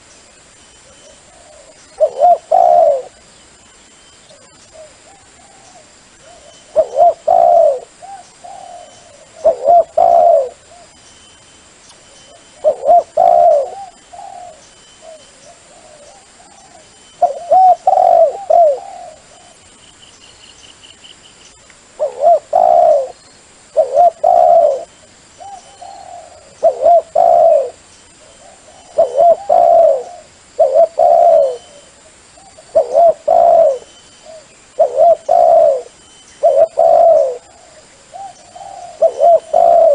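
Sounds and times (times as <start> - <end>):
dove cooing: 0.8 - 3.2, 4.3 - 11.0, 12.3 - 19.7, 22.0 - 39.9.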